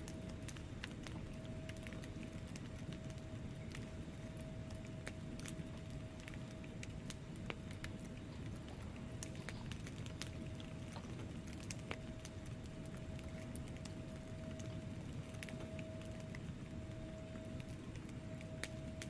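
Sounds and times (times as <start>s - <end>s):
faint steady tone: 0.0s - 19.0s
wood fire crackling: 0.0s - 19.0s.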